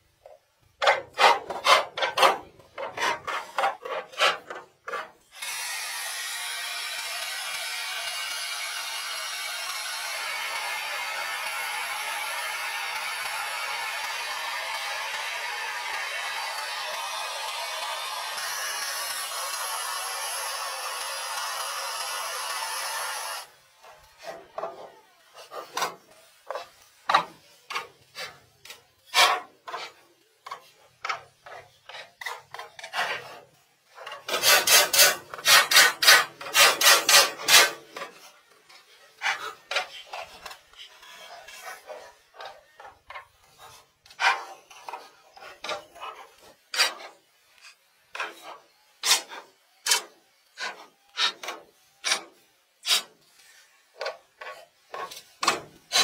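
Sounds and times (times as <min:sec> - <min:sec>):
hand tool scraping wood: 0:00.2 - 0:05.2, 0:09.8 - 0:56.0.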